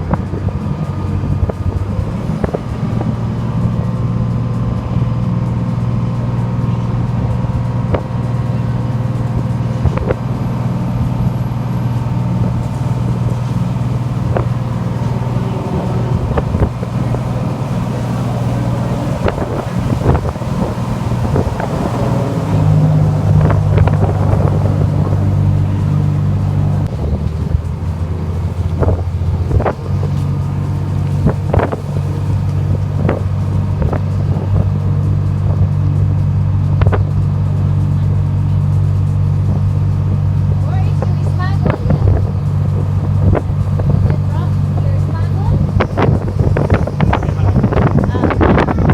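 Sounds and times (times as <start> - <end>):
boat engine running: 0.0 - 48.9
wind buffeting microphone: 0.0 - 48.9.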